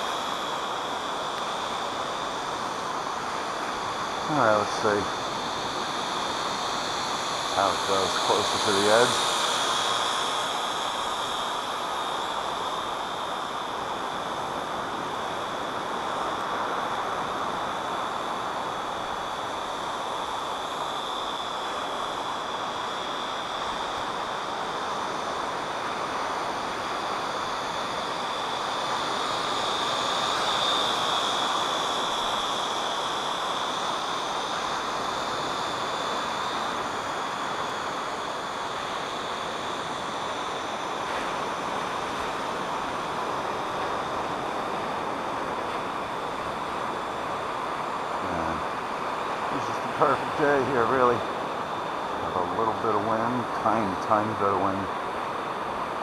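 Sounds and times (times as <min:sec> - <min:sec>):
drone propellers whining: 0:00.0 - 0:56.0
steady hiss: 0:00.0 - 0:56.0.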